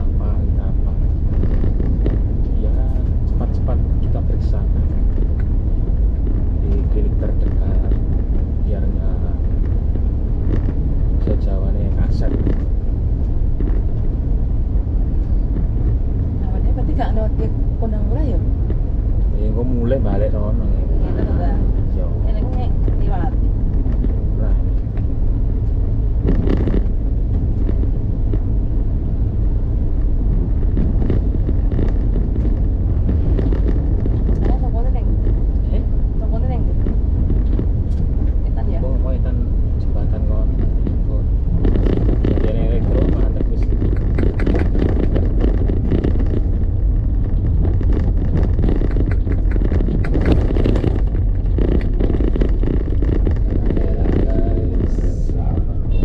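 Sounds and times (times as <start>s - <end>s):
road noise: 0.0s - 56.0s
wind rumble: 0.0s - 56.0s.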